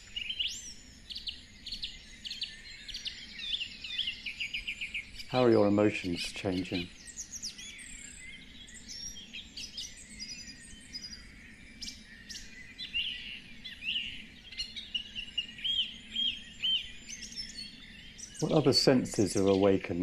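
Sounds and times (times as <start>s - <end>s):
songbirds singing and chirping: 0.0s - 20.0s.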